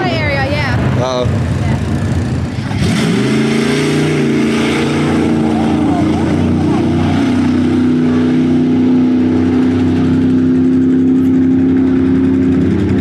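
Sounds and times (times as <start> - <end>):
truck engine at high revs: 0.0 - 13.0.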